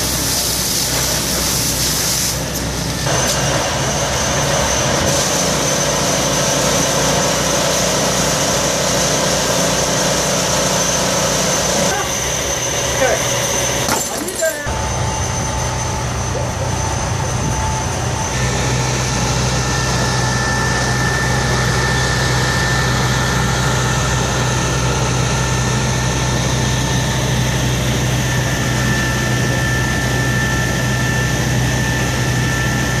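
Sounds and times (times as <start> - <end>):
fire truck engine running: 0.0 - 33.0
thin steady whine: 0.0 - 33.0.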